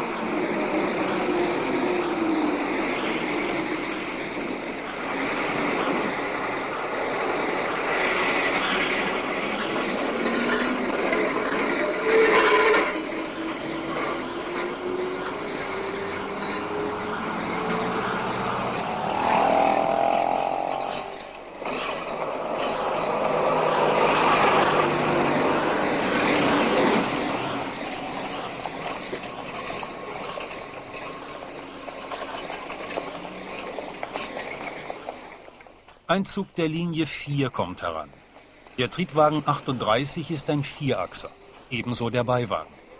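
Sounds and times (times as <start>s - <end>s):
street traffic: 0.0s - 36.1s
tram running: 0.0s - 42.9s.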